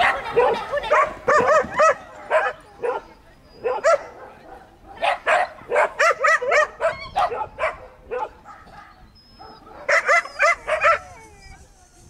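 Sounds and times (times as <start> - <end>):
small dog barking: 0.0 - 11.0.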